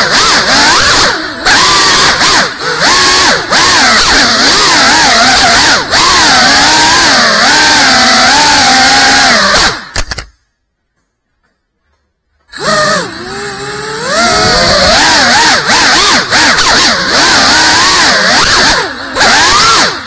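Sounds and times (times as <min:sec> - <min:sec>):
drone motors whining: 0:00.0 - 0:09.9, 0:12.4 - 0:20.0.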